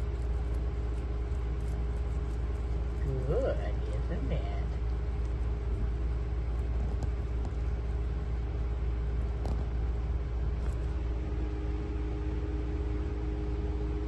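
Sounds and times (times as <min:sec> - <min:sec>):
low machine hum and rumble: 0:00.0 - 0:14.0.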